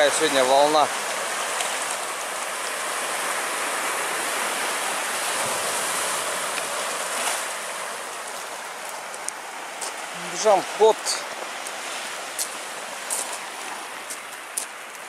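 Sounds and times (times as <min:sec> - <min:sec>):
waves washing onto shore: 0:00.0 - 0:15.0.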